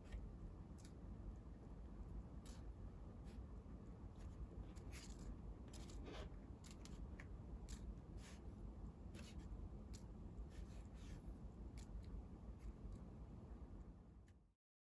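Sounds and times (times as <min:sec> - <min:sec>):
low steady hum: 0:00.0 - 0:14.6.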